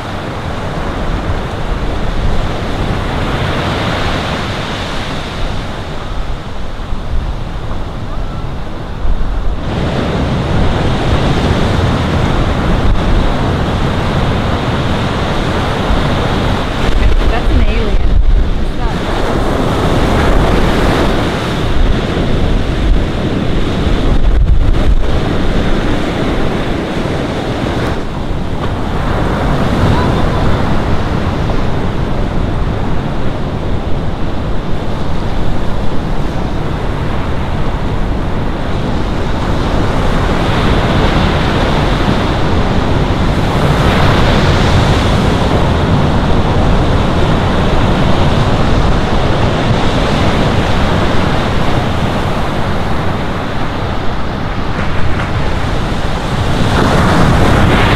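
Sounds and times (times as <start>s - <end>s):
ocean surf rushing: 0.0s - 57.9s
wind buffeting microphone: 0.0s - 57.9s.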